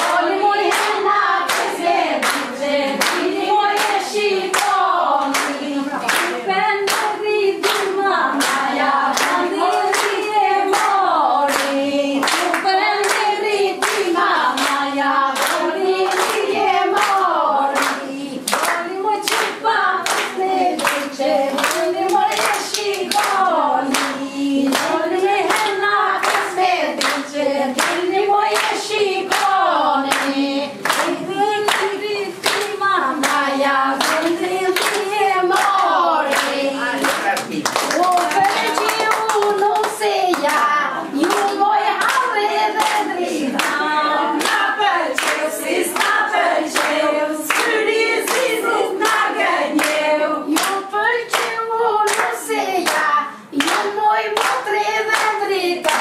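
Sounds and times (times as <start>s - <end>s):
hand claps: 0.0s - 56.0s
women singing in unison: 0.0s - 56.0s.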